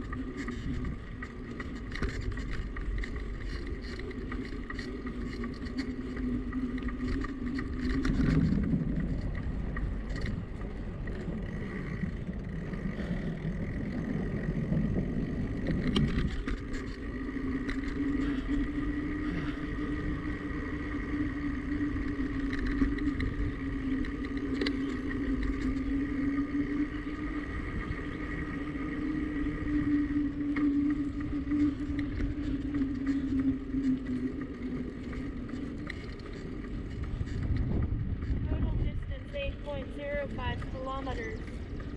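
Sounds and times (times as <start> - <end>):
bicycle riding hum: 0.0 - 41.9
wind on microphone: 0.0 - 41.9.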